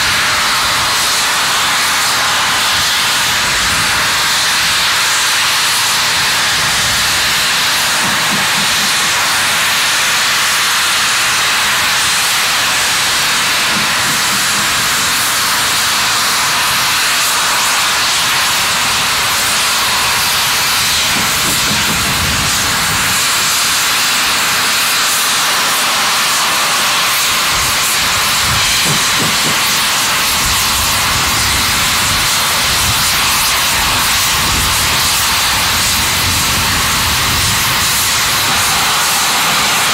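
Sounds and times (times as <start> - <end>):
steam locomotive blowing off steam: 0.0 - 39.9.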